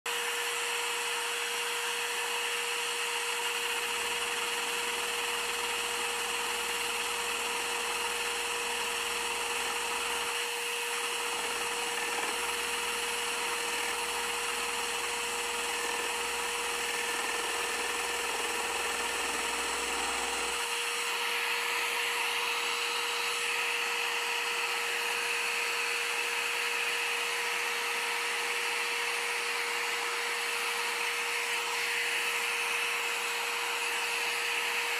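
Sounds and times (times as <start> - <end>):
scroll saw cutting wood: 0.1 - 34.9.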